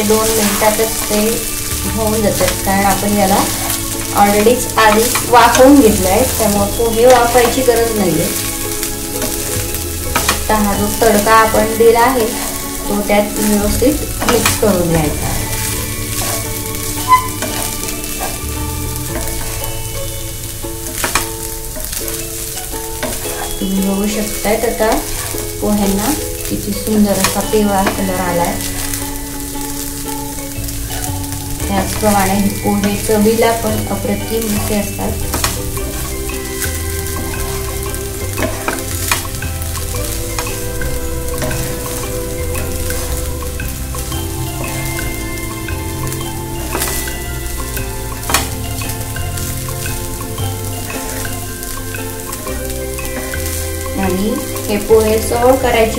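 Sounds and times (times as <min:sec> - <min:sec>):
light sizzle: 0:00.0 - 0:55.9
soft instrumental music: 0:00.0 - 0:55.9
spatula scraping frying pan: 0:00.0 - 0:55.9.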